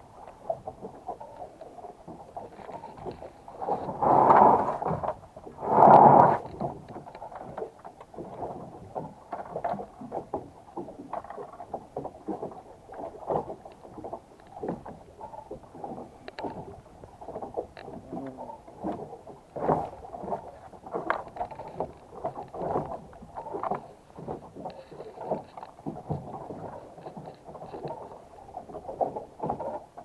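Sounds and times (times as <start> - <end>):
water slapping against boat hull: 0.0 - 30.0.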